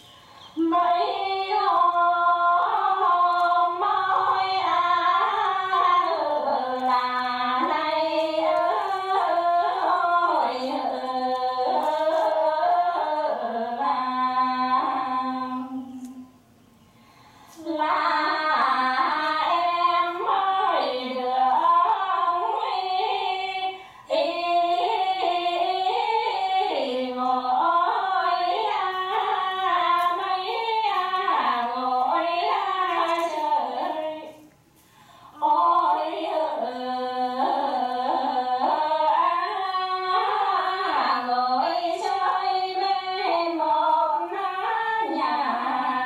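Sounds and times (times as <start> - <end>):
two women singing unaccompanied: 0.0 - 16.5, 17.5 - 34.6, 35.2 - 46.0.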